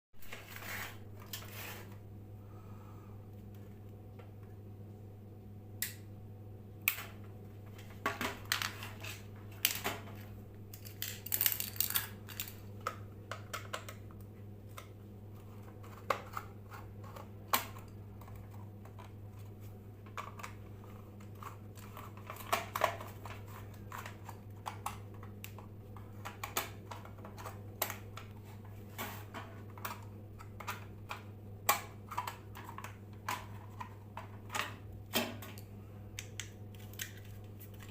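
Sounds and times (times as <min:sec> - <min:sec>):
ceiling fan humming: 0:00.2 - 0:37.9.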